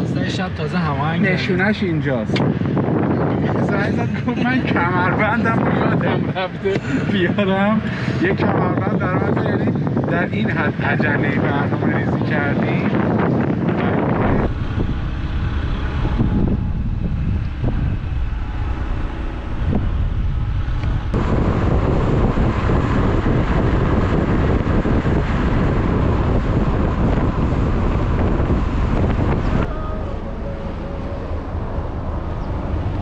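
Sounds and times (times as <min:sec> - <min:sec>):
road and engine noise in car: 0:00.0 - 0:33.0
wind rushing over microphone: 0:00.0 - 0:33.0.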